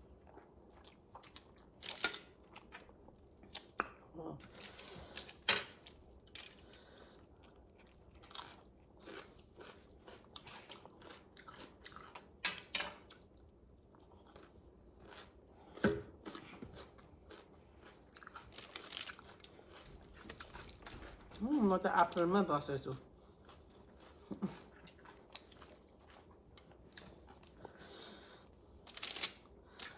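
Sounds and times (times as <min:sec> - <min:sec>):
chewing and crunching: 0:00.0 - 0:29.9.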